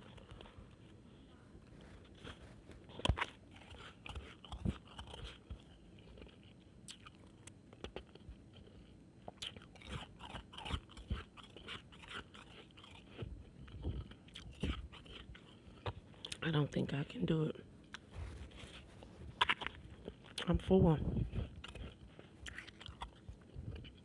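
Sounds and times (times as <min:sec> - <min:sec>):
crunching and chewing shaved ice: 0:00.0 - 0:16.9, 0:17.8 - 0:24.0.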